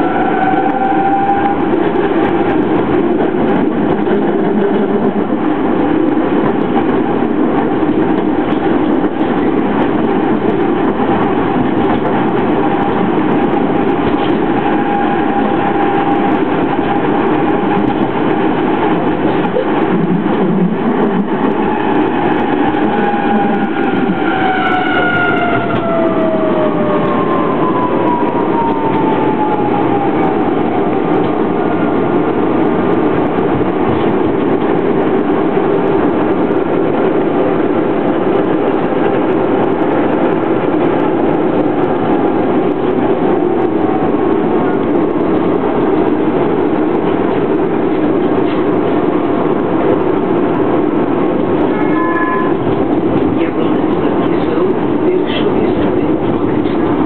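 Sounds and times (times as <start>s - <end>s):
tram wheels rumbling on rail: 0.0s - 57.0s.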